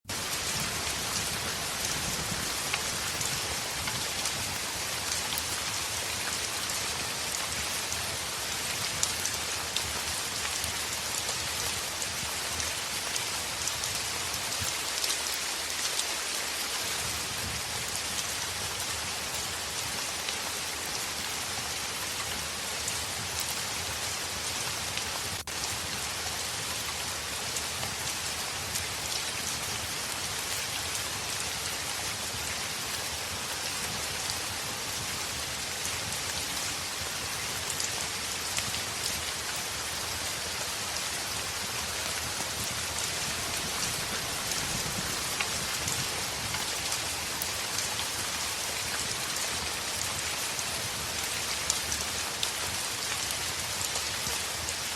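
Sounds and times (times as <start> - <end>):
heavy rain on a window: 0.0 - 54.9.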